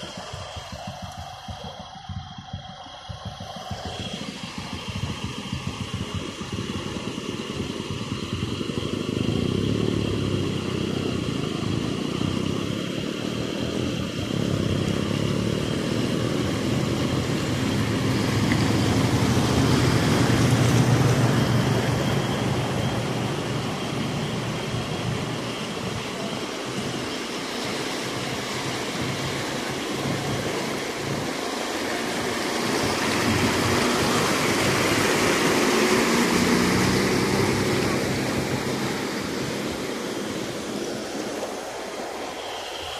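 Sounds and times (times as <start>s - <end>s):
vehicle engine running: 0.0s - 42.9s
water rushing and churning: 0.0s - 42.9s.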